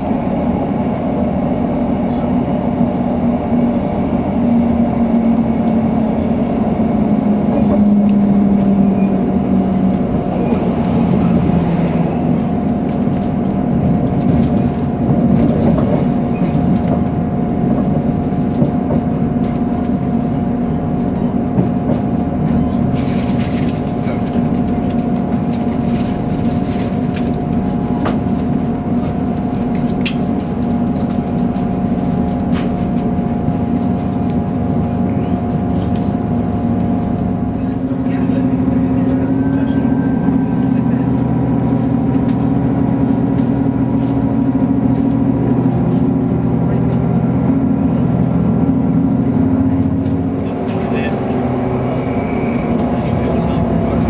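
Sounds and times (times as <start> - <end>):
train rumble and engine hum: 0.0 - 54.0.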